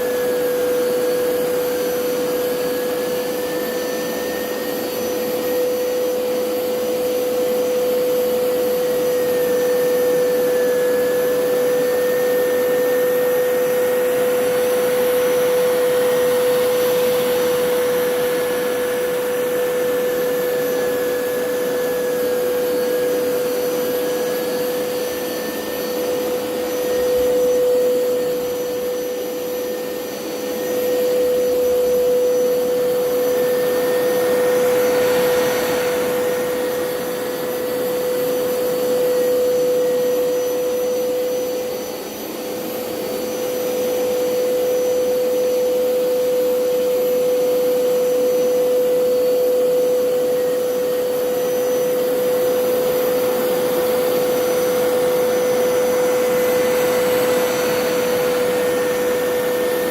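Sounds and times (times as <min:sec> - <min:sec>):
carpet cleaner suction motor whining: 0:00.0 - 0:59.9.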